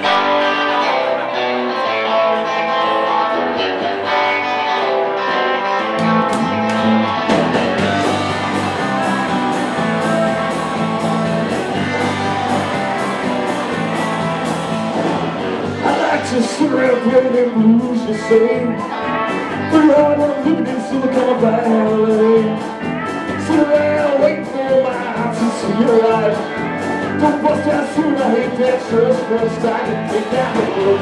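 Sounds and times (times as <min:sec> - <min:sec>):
electric guitar: 0:00.0 - 0:31.0
rock band playing: 0:00.0 - 0:31.0.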